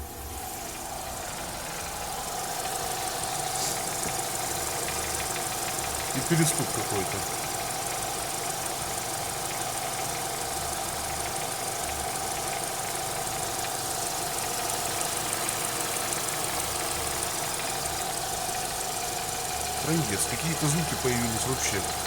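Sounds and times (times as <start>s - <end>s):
car engine running: 0.0s - 22.0s
engine chirp: 0.0s - 22.0s
light repetitive engine knocking: 0.0s - 22.0s.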